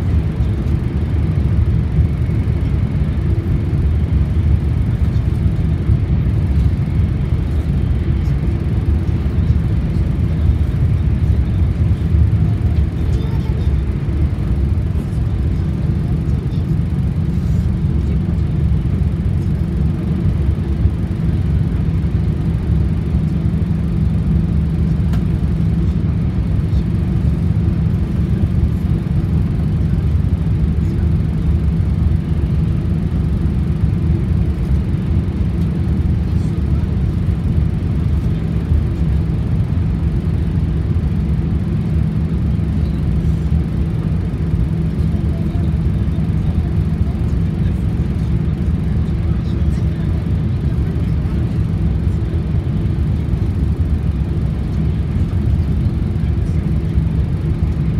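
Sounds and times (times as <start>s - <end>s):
train cabin low rumble: 0.0s - 57.9s.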